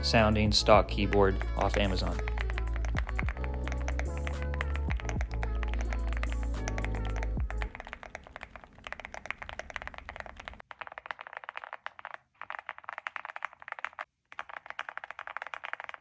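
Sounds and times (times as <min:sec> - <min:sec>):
mechanical keyboard typing: 0:00.3 - 0:16.0.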